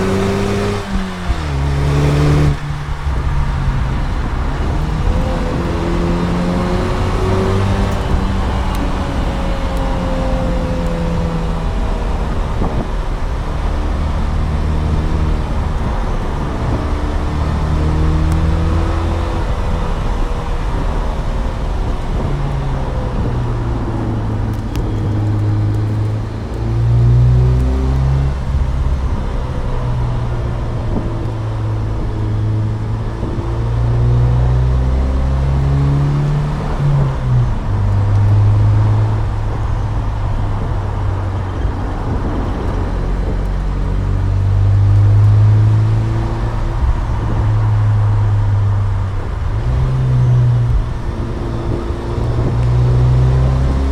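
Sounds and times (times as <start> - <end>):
car engine revving through gears: 0.0 - 53.9.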